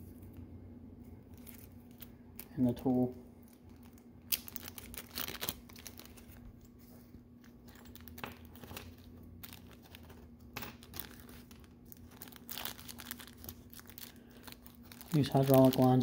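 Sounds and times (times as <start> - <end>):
plastic bag crinkling: 1.3 - 6.6, 7.4 - 16.0.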